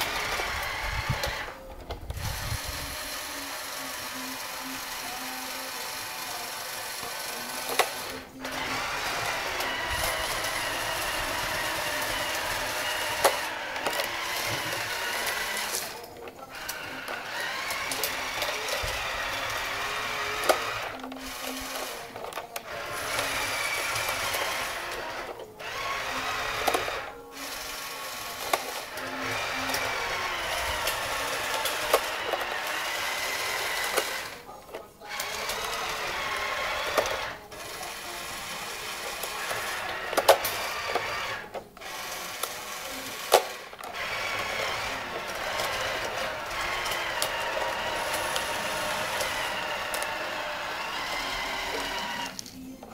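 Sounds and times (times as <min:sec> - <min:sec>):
toy bulldozer motor whining: 0:00.0 - 0:52.9.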